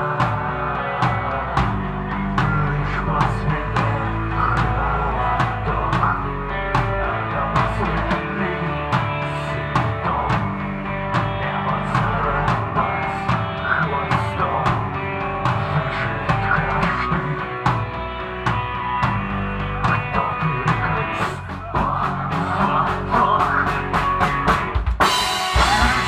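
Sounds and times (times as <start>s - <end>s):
person singing into a microphone: 0.0s - 17.6s, 19.8s - 24.6s
distorted electric guitar: 0.0s - 26.0s
drum kit: 0.0s - 26.0s
electric bass: 0.0s - 26.0s.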